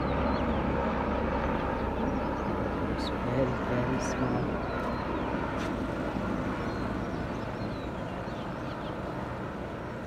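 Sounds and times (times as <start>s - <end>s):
distant helicopter drone: 0.0s - 10.0s.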